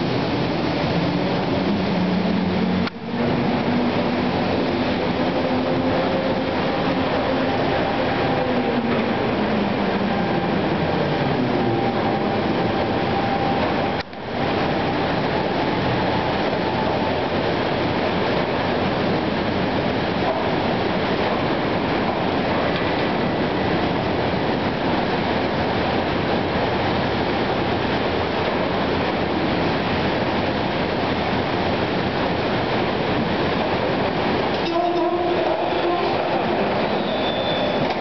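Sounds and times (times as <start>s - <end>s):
steel mill machinery noise: 0.0s - 38.0s.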